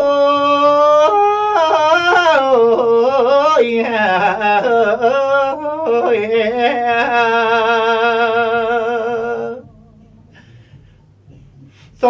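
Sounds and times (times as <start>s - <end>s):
man singing with vibrato: 0.0s - 10.7s.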